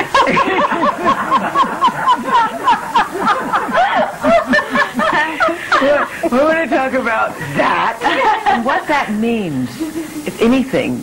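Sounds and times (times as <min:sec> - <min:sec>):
women laughing together: 0:00.0 - 0:07.2, 0:07.8 - 0:08.8, 0:09.8 - 0:10.4.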